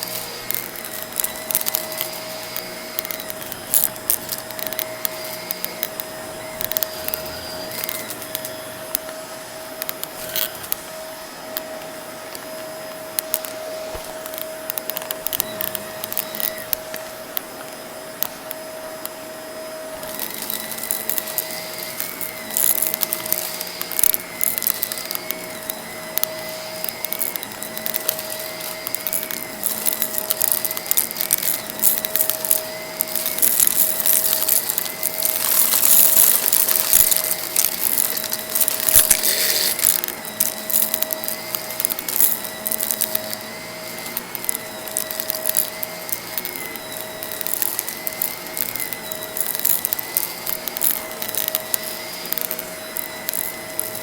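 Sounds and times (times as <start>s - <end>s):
grit crackling in vacuum: 0.0s - 54.0s
vacuum cleaner whining: 0.0s - 54.0s.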